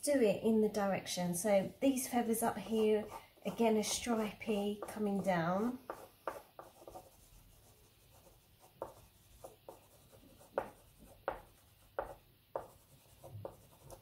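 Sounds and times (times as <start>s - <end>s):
oil pastel scratching paper: 2.2s - 14.0s.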